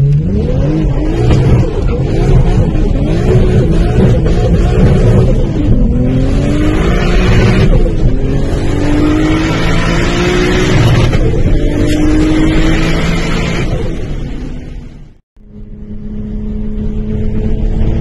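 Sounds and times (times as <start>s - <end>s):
car engine accelerating through gears: 0.0s - 18.0s.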